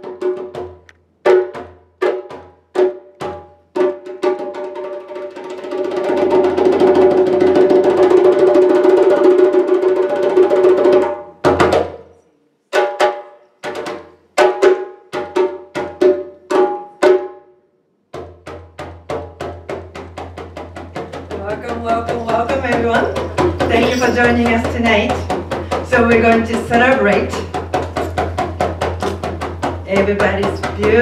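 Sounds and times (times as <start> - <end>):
djembe hand drum: 0.0 - 17.5, 18.1 - 31.0.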